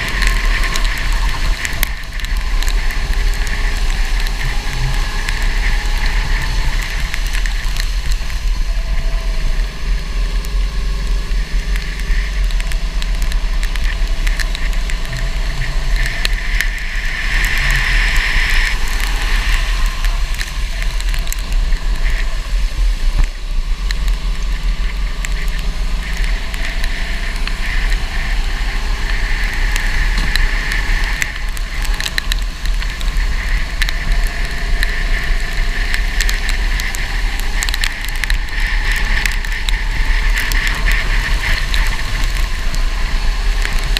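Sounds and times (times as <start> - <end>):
wind rumble on microphone: 0.0 - 43.9.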